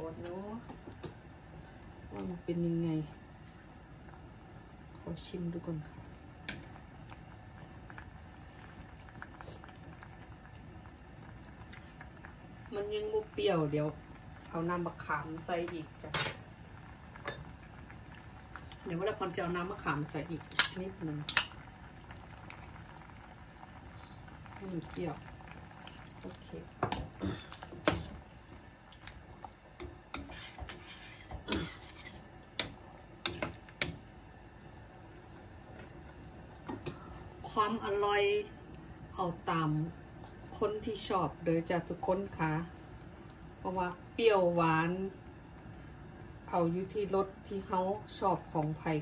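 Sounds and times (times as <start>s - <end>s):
curry bubbling in a pot: 0.4s - 44.2s.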